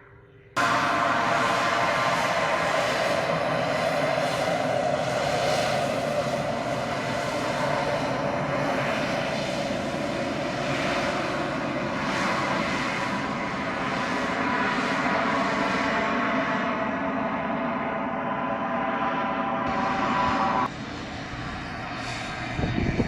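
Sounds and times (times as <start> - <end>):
turboprop engine drone: 0.0 - 23.0.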